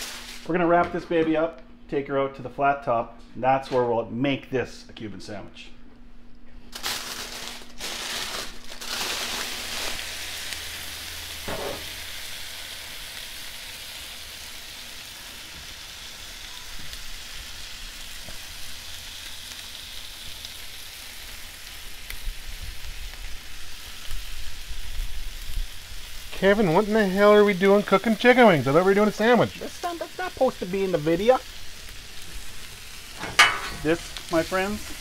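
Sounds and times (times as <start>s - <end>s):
chicken wings sizzling on griddle: 0.0s - 0.5s, 6.9s - 35.0s.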